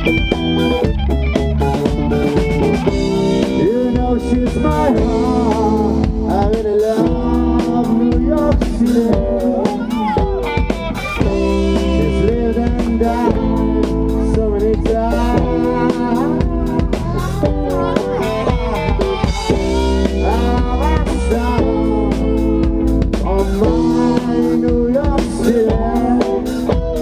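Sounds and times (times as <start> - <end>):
bass guitar: 0.0 - 27.0
drum kit: 0.0 - 27.0
electric guitars: 0.0 - 27.0
person singing: 1.7 - 27.0.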